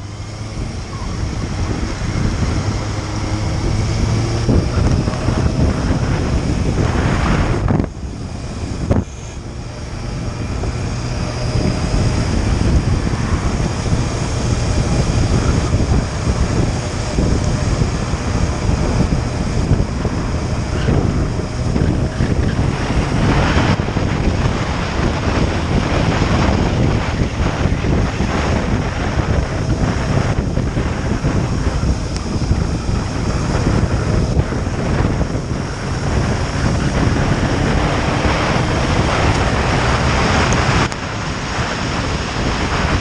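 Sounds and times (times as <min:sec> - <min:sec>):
motorcycle engine: 0:00.0 - 0:43.0
road noise: 0:00.0 - 0:43.0
wind buffeting microphone: 0:00.0 - 0:43.0.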